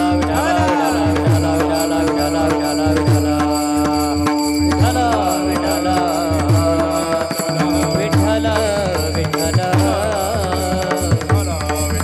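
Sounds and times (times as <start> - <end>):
tabla playing: 0.0 - 12.0.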